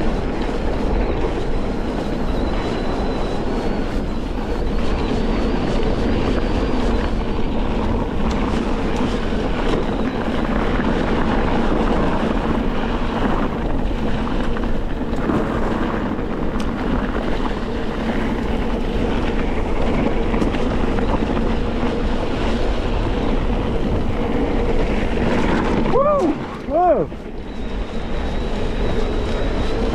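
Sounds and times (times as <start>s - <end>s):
constant hum: 0.0s - 29.9s
wind rushing over microphone: 0.0s - 29.9s.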